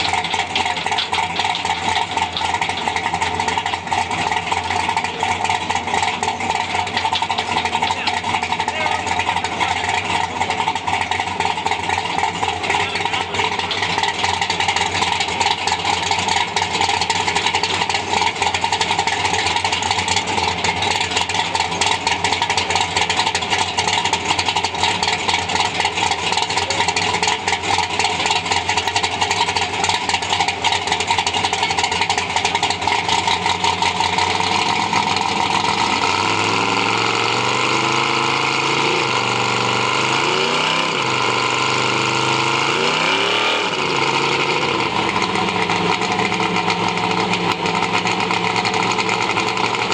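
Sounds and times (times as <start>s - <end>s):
car engine idling loud and choppy: 0.0s - 49.9s
car engine revving: 0.0s - 49.9s.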